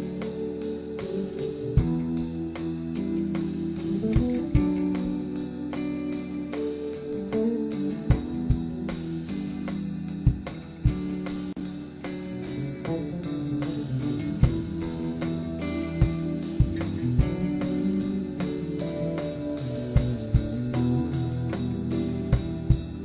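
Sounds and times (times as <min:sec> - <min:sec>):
blues-rock band playing: 0:00.0 - 0:23.0.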